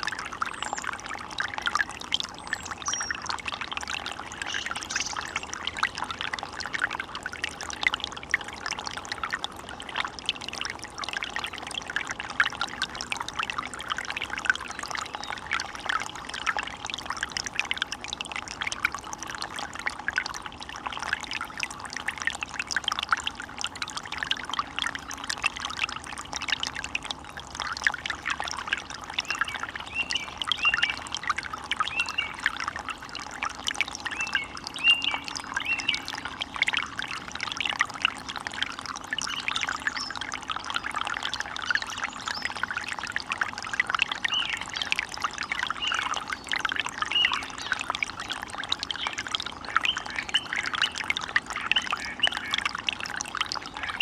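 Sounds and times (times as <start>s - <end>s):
stream babbling: 0.0s - 54.0s.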